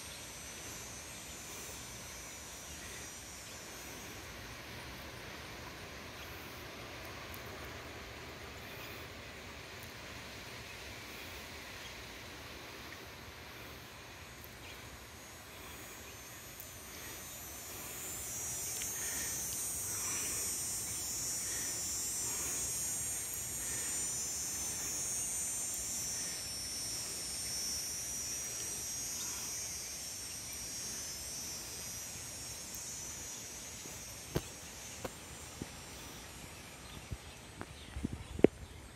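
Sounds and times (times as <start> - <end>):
cicada buzzing: 0.0 - 38.9.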